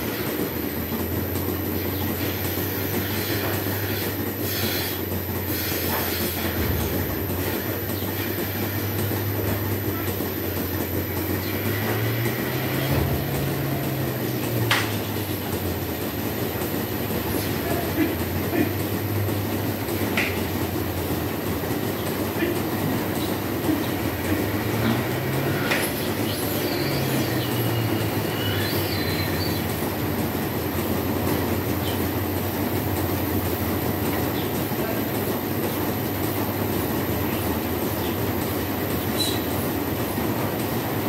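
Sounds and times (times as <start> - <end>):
milking machinery humming and rattling: 0.0 - 41.0.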